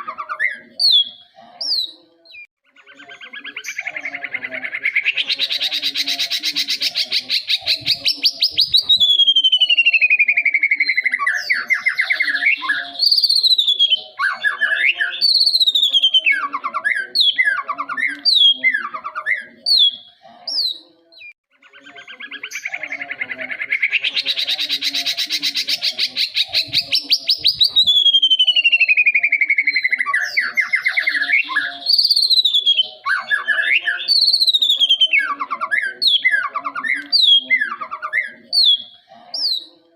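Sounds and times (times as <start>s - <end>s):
bird trilling and whistling: 0.0s - 39.7s.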